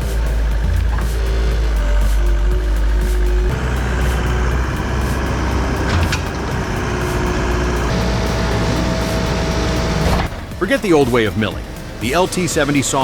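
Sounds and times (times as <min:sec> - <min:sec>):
heavy machinery engine rumbling: 0:00.0 - 0:13.0.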